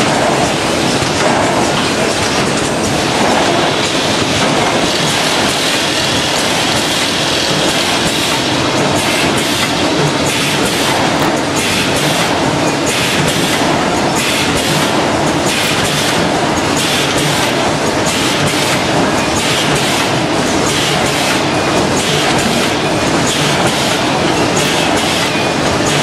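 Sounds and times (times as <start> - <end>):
packaging machine clatter: 0.0 - 26.0
sharp machine rattle: 0.0 - 26.0.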